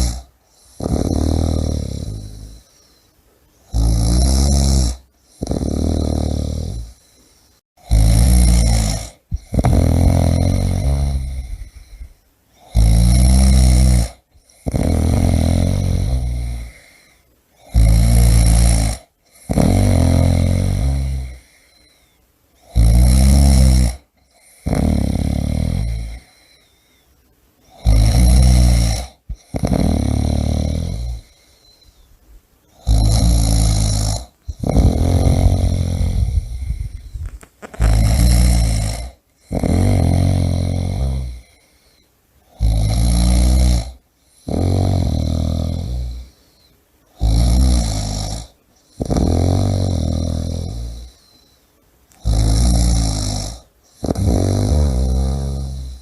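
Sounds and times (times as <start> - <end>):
person snoring: 0.0 - 3.0, 3.7 - 26.8, 27.7 - 32.1, 32.7 - 56.0.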